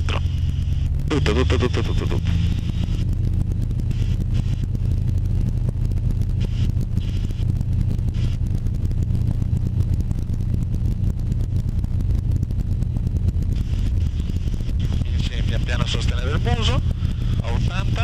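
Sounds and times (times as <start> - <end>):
aircraft engine and propeller drone: 0.0 - 18.0.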